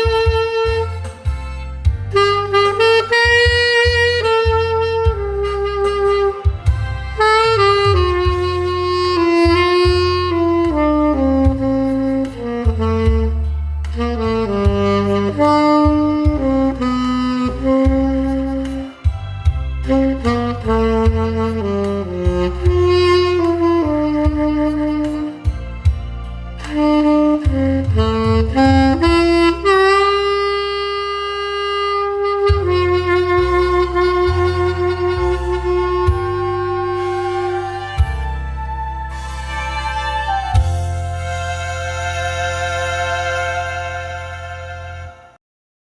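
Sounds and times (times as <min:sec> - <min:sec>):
drum beats: 0:00.0 - 0:29.9, 0:32.3 - 0:42.1
bass line: 0:00.0 - 0:45.4
saxophone playing slow melody: 0:00.0 - 0:45.4.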